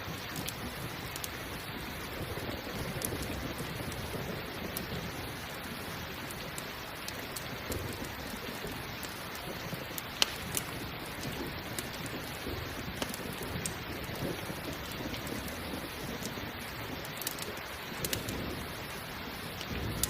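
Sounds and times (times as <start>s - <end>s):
campfire pops and crackles: 0.0s - 20.0s
steady rain: 0.0s - 20.0s.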